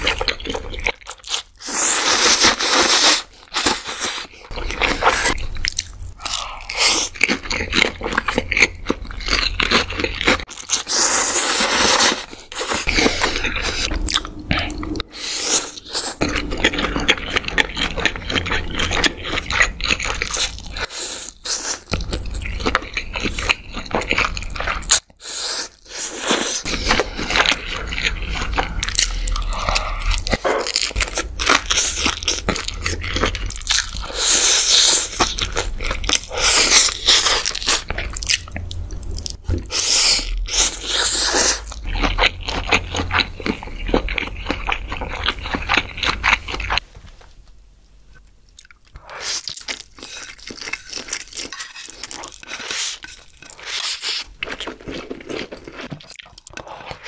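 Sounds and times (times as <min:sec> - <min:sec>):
person chewing and crunching: 0:00.0 - 0:46.8, 0:48.1 - 0:57.0.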